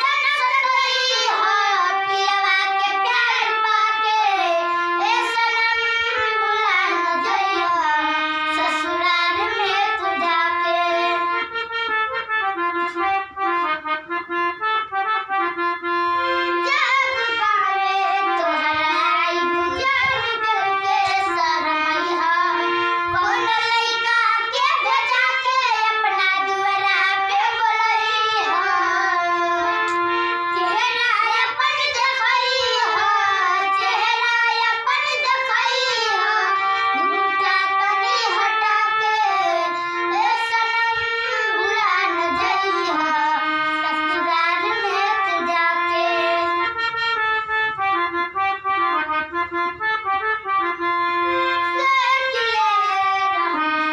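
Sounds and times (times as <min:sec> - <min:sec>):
girls singing folk song: 0:00.0 - 0:11.3, 0:16.6 - 0:46.6, 0:51.7 - 0:53.9
harmonium holding notes: 0:00.0 - 0:53.9.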